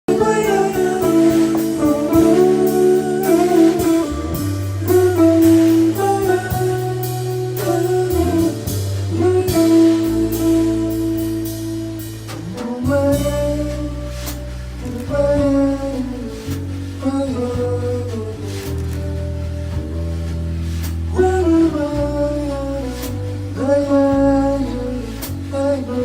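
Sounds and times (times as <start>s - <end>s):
bass: 0.0s - 26.0s
drums with cymbal strokes: 0.1s - 26.0s
jazz guitar melody: 0.1s - 26.0s.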